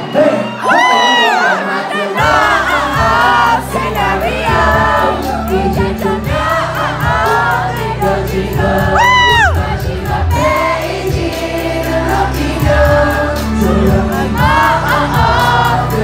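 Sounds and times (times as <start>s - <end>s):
audience singing along: 0.0s - 16.0s
men singing into microphones: 0.0s - 16.0s
pop dance track over pa: 2.2s - 16.0s.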